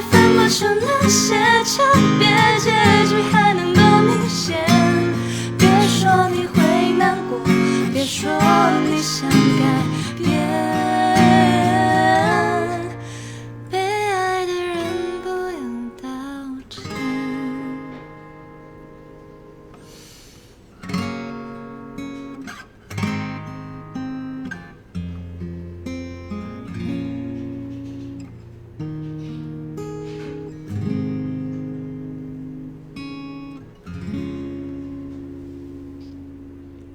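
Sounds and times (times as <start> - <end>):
acoustic guitar playing: 0.0 - 36.9.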